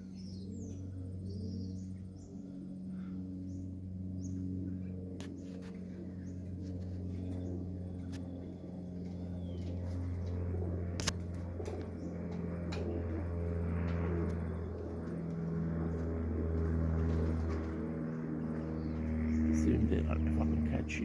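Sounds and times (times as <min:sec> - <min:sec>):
pigeons cooing: 0:00.0 - 0:21.0
steady low hum: 0:00.0 - 0:21.0.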